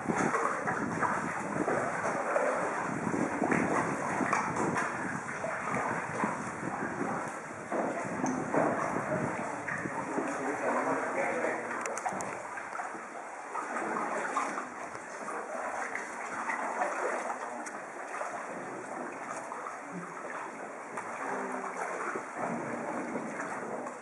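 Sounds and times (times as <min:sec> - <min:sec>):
kayak paddles splashing: 0:00.0 - 0:24.0
voices of kayakers: 0:00.0 - 0:24.0.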